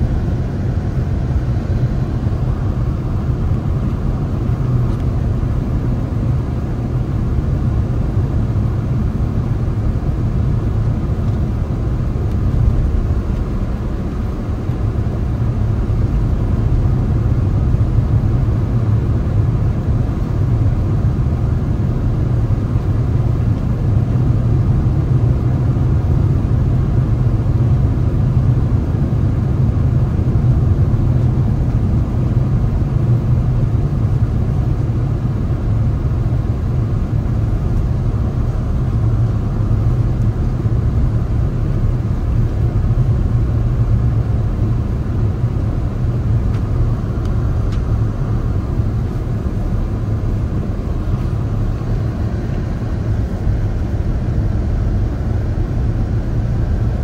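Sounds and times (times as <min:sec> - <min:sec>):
car engine rumble: 0:00.0 - 0:57.0
road noise: 0:00.0 - 0:57.0.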